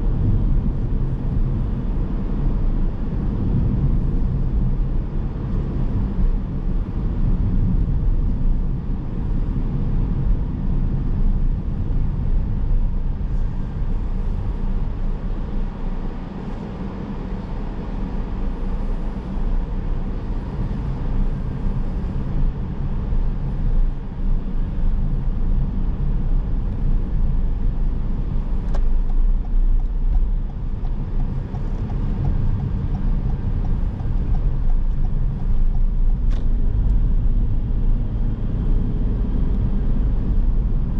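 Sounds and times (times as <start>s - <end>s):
car tyre and engine rumble: 0.0s - 40.9s.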